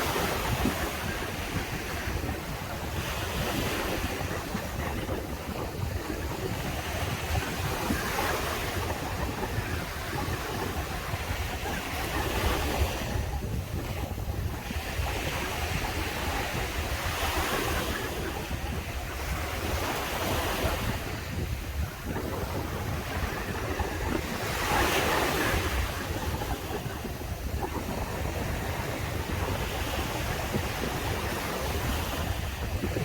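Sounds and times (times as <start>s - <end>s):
sea waves breaking on beach: 0.0s - 33.0s
wind buffeting microphone: 0.0s - 33.0s.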